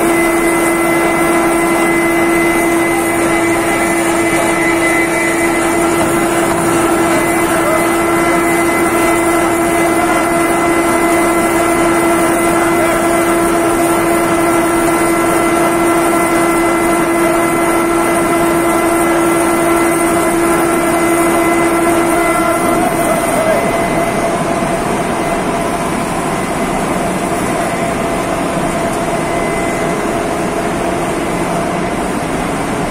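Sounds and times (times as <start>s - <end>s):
loud machine din with whine: 0.0s - 32.9s.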